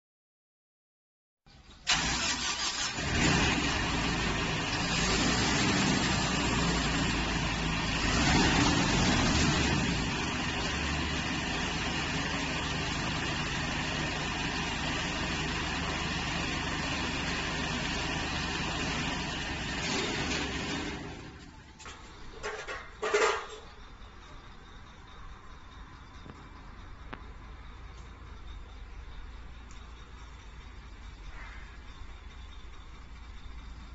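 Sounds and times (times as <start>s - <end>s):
harvester machinery running: 1.6s - 33.9s.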